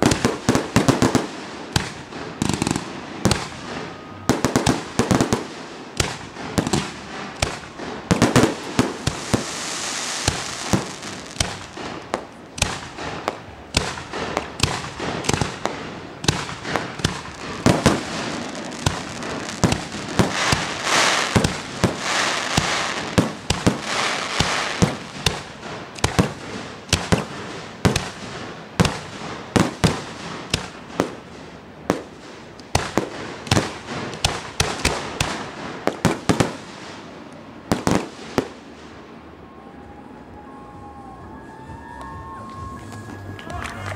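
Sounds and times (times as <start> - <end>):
fireworks hissing: 0.0 - 38.7
fireworks bangs: 0.0 - 40.4.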